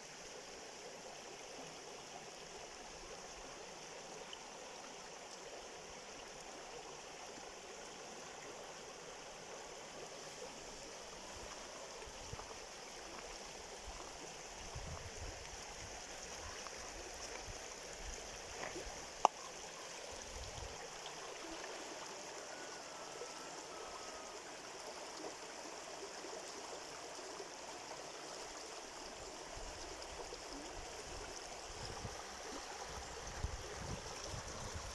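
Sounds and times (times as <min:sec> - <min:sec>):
stream running water: 0:00.0 - 0:34.9.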